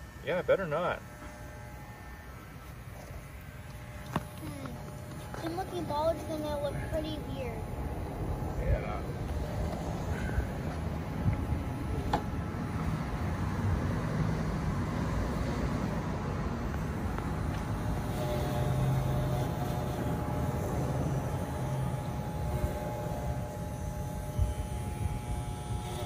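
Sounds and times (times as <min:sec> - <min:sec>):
electric hair clippers humming: 0:00.0 - 0:26.0.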